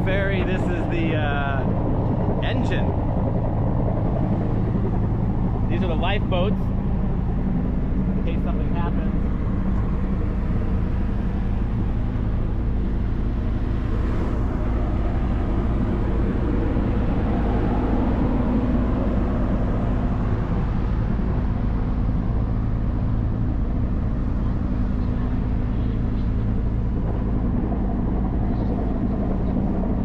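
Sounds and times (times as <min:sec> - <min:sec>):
ferry engine droning loudly: 0:00.0 - 0:30.0.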